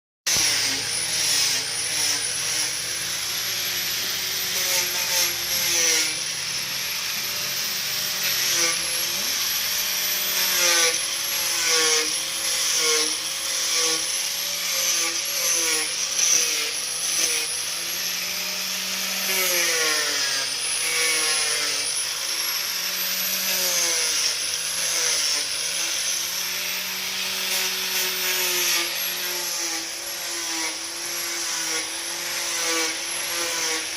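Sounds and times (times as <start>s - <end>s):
sawmill saw cutting wood: 0.3s - 33.9s.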